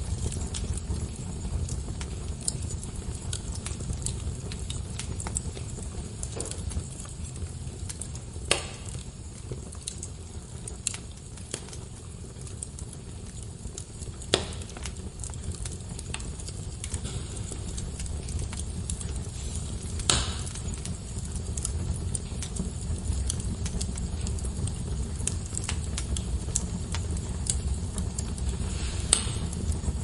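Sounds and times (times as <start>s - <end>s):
fire crackles and pops: 0.0s - 30.0s
low rumble of flames: 0.0s - 30.0s.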